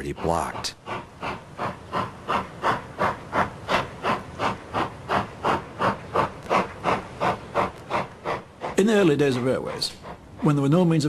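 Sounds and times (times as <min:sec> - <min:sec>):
steam locomotive exhaust chuffing: 0:00.0 - 0:11.0.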